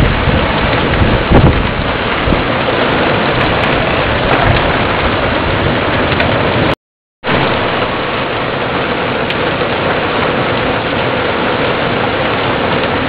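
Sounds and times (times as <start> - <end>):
heavy rain pouring: 0.0 - 13.0
thunder rumbling: 0.0 - 13.0.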